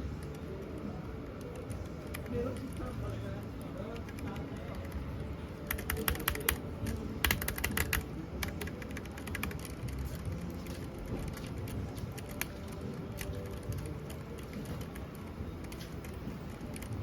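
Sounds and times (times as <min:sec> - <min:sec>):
mechanical keyboard typing: 0:00.0 - 0:17.0.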